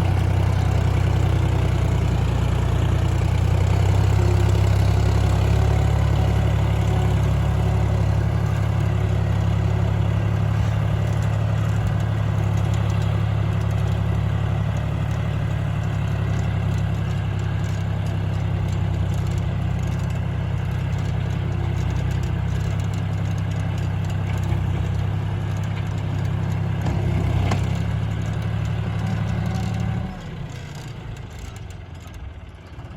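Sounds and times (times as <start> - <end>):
tractor diesel engine droning: 0.0 - 32.9.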